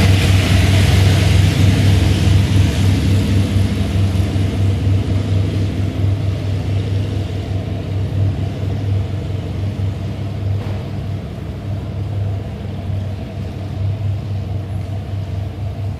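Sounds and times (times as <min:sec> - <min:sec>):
low mechanical hum: 0:00.0 - 0:15.9.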